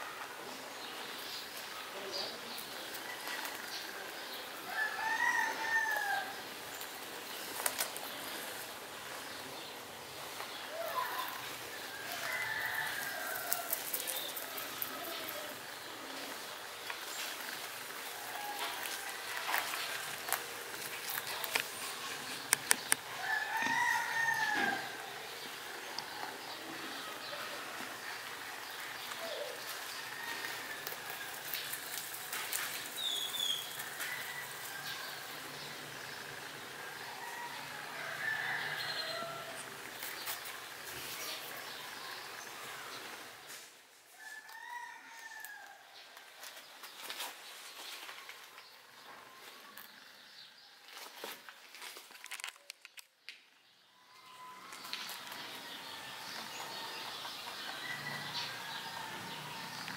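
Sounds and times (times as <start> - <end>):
drawn-out rising and falling call: 1.3 - 43.6, 53.9 - 59.9.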